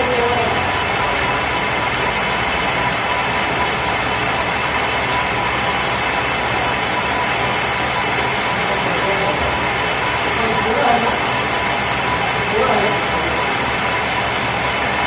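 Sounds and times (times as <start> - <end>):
metal lathe machining: 0.0 - 15.0
thin constant tone: 0.0 - 15.0.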